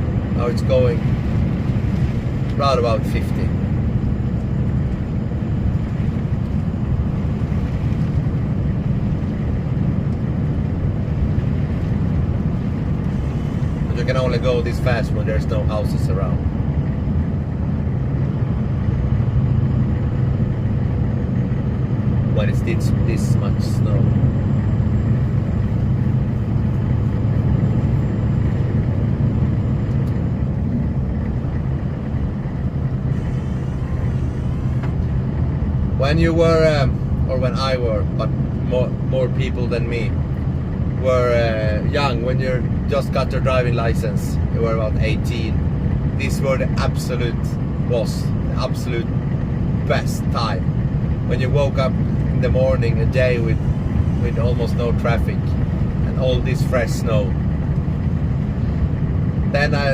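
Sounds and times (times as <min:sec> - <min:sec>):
snowplow truck rumbling: 0:00.0 - 0:59.9.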